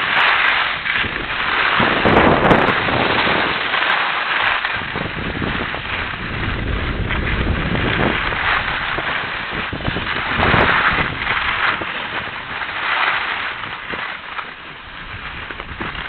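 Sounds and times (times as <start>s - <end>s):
skis scraping over hard snow: 0.0s - 16.0s
wind buffeting microphone: 0.0s - 16.0s.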